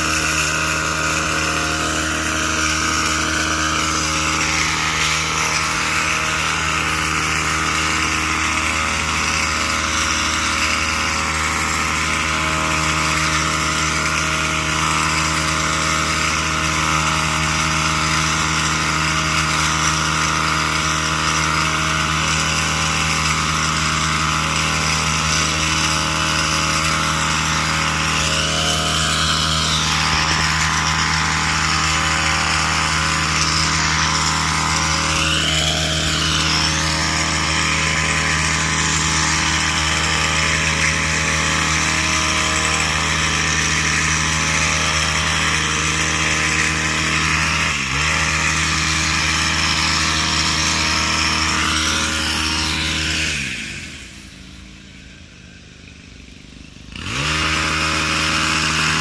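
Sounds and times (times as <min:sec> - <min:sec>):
hedge trimmer engine revving: 0:00.0 - 0:59.0.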